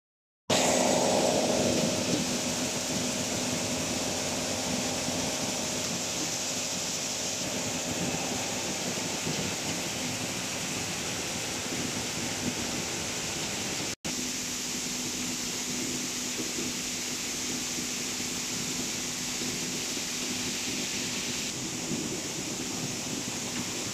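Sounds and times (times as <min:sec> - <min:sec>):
machine hiss: 0:00.5 - 0:23.9.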